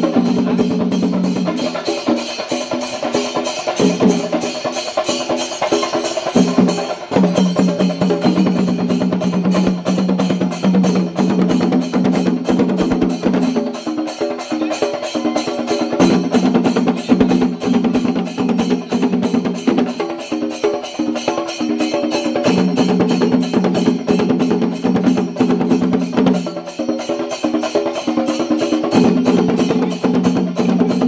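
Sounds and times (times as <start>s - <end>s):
fast drum strokes: 0.0s - 31.0s.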